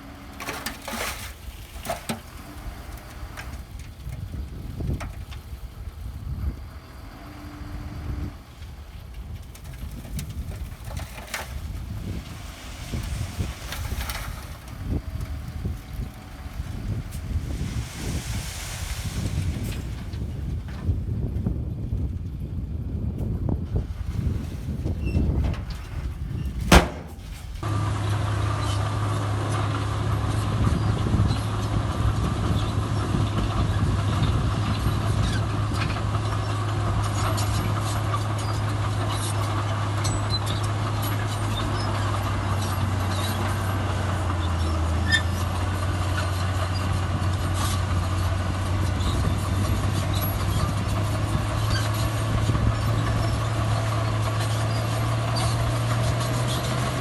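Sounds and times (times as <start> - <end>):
diesel engine running: 1.4 - 57.0.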